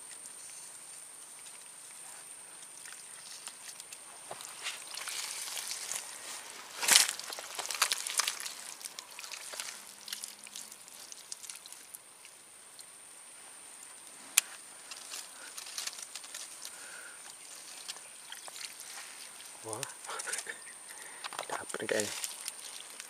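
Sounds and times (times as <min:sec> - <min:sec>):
dry leaves and twigs crackling: 0:00.0 - 0:23.0.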